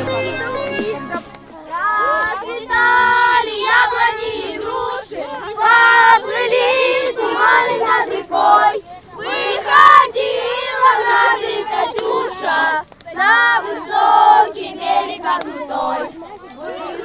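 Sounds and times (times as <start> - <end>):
children singing in chorus: 1.1 - 17.0.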